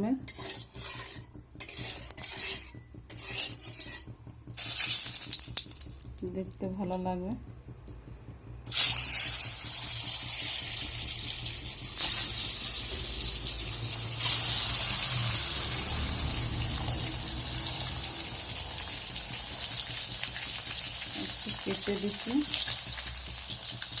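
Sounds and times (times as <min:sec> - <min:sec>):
eggs sizzling in hot oil: 0:00.3 - 0:06.3, 0:08.7 - 0:24.0.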